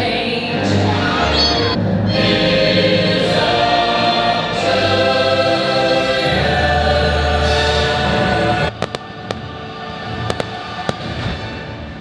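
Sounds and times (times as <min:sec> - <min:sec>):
choir singing: 0:00.0 - 0:11.7.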